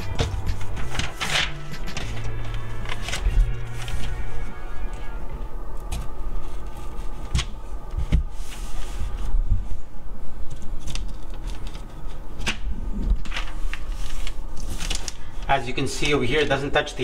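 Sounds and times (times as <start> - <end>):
paper rustling against wall: 0.0 - 4.7, 5.8 - 9.8, 10.4 - 17.0.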